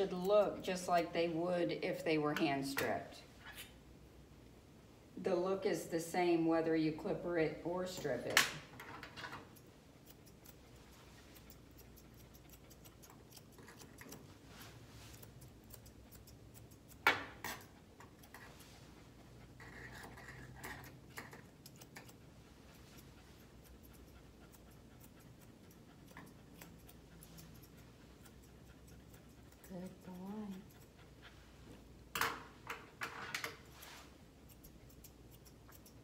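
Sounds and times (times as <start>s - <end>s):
scissors snipping through fur: 0.0s - 3.7s, 7.8s - 31.3s, 32.4s - 36.0s.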